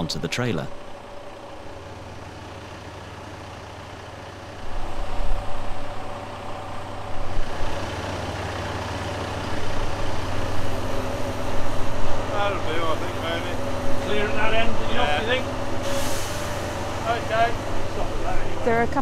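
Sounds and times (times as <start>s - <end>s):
lorry diesel engine running: 0.0s - 19.0s.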